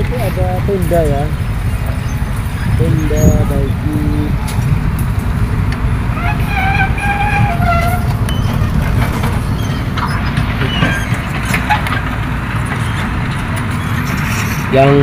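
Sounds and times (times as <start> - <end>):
distant excavator rumble: 0.0 - 15.0.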